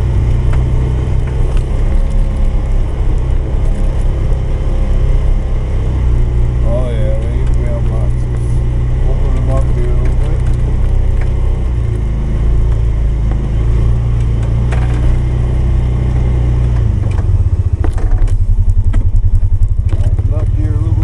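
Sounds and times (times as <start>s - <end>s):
single-cylinder engine running: 0.0s - 21.0s.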